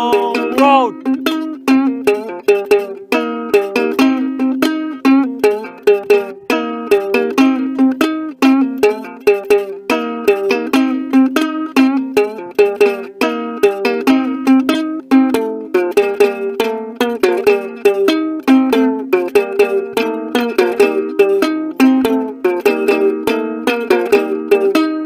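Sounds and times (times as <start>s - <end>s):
ukulele plucked notes: 0.0s - 25.0s.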